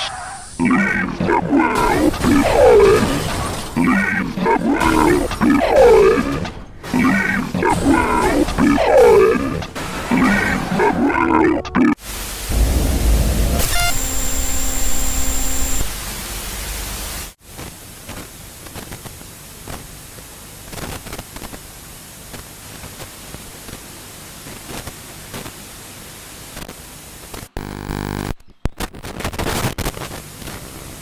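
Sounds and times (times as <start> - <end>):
crackling static: 0.6 - 31.0.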